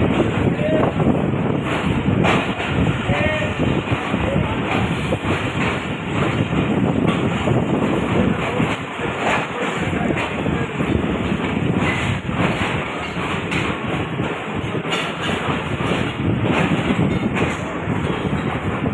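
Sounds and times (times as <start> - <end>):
train carriages rumbling on track: 0.0 - 18.9
wheels clattering: 0.0 - 18.9.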